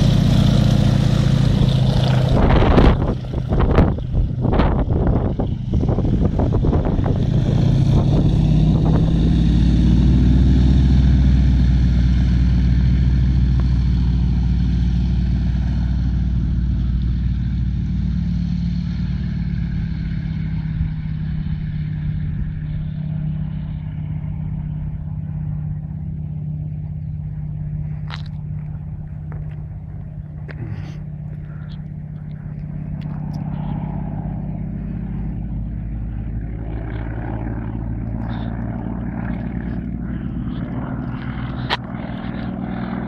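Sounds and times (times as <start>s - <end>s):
propeller plane engine: 0.0s - 43.0s.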